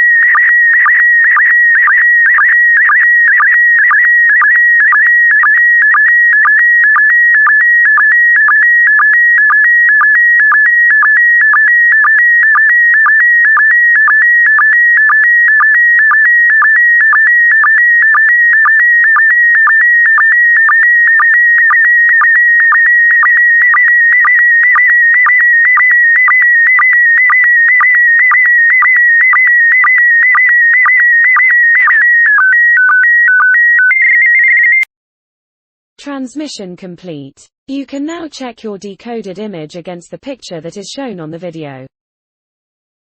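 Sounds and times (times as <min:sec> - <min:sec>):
stepped electronic tones: 0:00.0 - 0:34.9.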